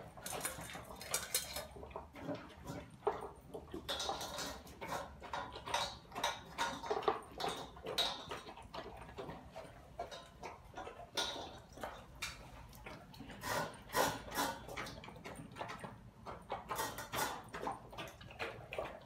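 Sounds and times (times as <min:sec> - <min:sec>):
dogs crunching dry kibble: 0:00.0 - 0:19.0
kibble clinking on metal bowls: 0:00.0 - 0:19.0.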